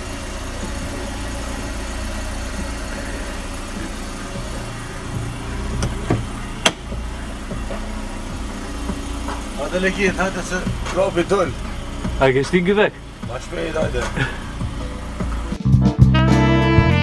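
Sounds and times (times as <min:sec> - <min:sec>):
car engine idling: 0:00.0 - 0:16.2.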